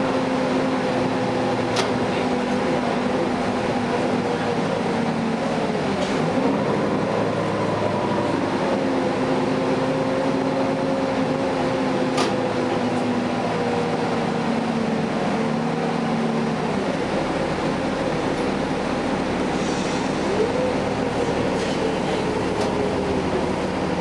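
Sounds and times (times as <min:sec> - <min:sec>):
bus engine drone: 0:00.0 - 0:24.0.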